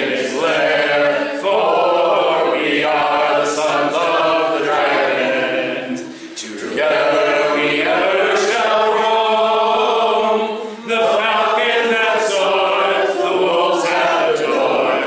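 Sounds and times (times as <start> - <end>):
group of people singing: 0.0 - 15.0.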